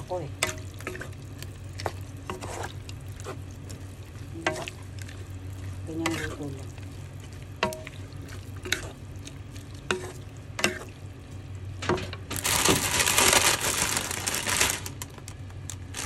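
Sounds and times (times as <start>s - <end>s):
noodles sizzling in hot pan: 0.0s - 16.0s
steady low hum: 0.0s - 16.0s.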